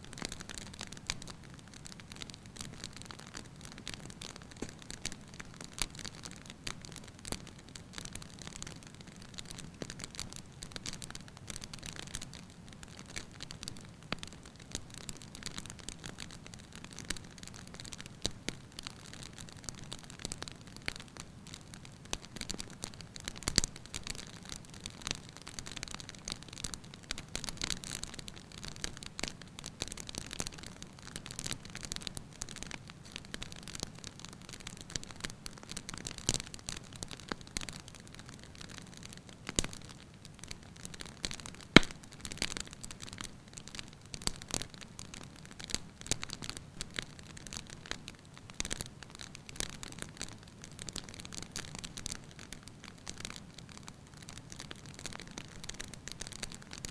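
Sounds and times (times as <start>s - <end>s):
wood fire crackling and popping: 0.1s - 56.9s.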